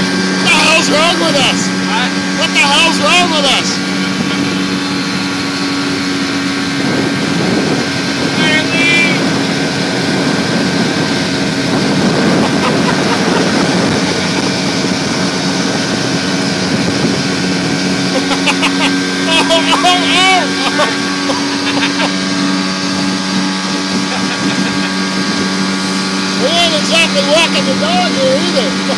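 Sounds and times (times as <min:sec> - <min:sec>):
outboard motor running: 0:00.0 - 0:28.9
rush of wind and water: 0:00.0 - 0:28.9.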